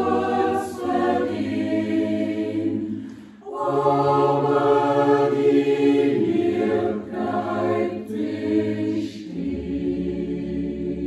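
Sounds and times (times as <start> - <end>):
choir singing a cappella: 0.0 - 11.0.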